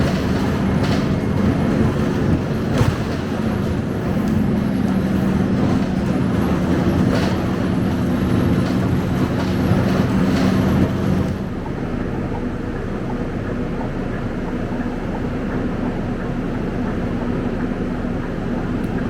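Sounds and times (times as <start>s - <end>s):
bus engine drone: 0.0s - 19.0s
road noise: 0.0s - 19.0s.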